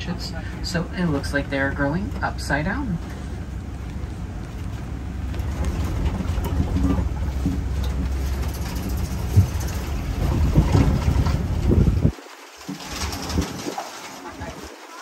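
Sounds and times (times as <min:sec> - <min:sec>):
wind buffeting microphone: 0:00.0 - 0:14.8
bumps and rattles: 0:00.0 - 0:15.0
truck engine rumble: 0:00.0 - 0:15.0.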